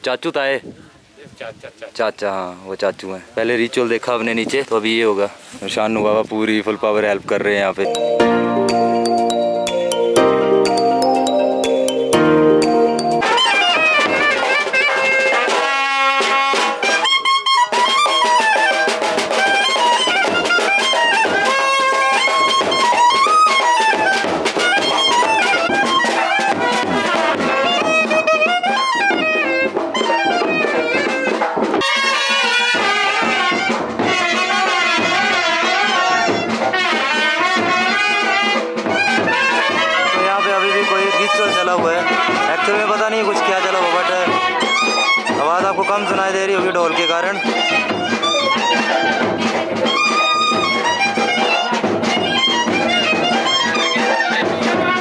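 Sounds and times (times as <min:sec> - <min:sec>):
drums: 0:04.1 - 0:55.0
wind instrument melody: 0:07.8 - 0:55.0.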